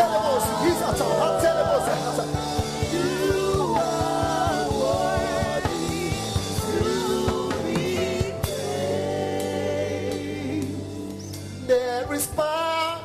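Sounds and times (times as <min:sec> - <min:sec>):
held chords: 0:00.0 - 0:11.7
drum kit: 0:00.0 - 0:13.0
gospel band playing: 0:00.0 - 0:13.0
people singing: 0:00.0 - 0:13.0.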